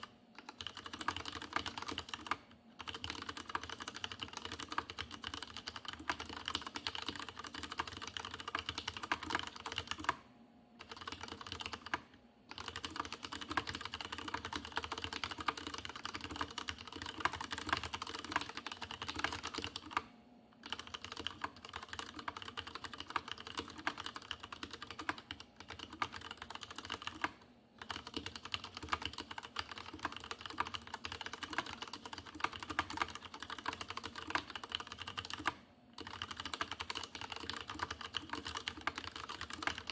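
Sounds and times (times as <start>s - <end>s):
mechanical keyboard typing: 0.0s - 10.2s, 10.8s - 39.9s.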